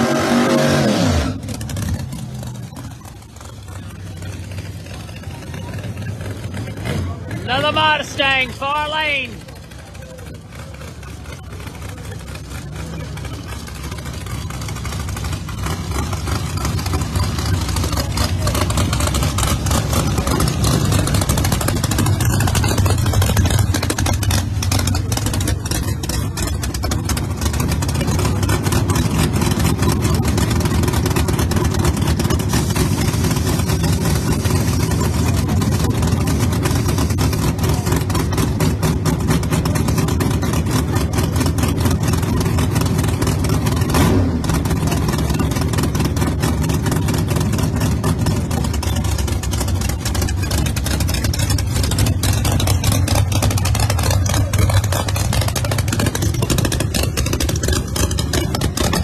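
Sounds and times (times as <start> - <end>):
rough car engine idling: 0.0 - 59.0.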